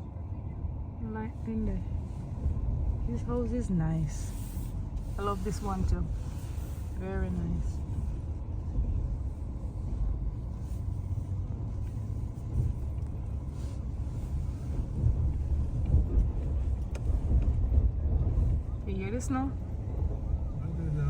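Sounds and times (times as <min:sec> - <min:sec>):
car tyres rolling over snow: 0:01.1 - 0:21.0.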